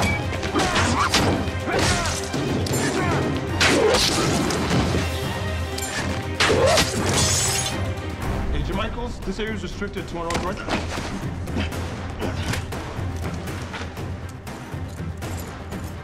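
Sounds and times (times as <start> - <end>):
dramatic background music: 0.0 - 16.0.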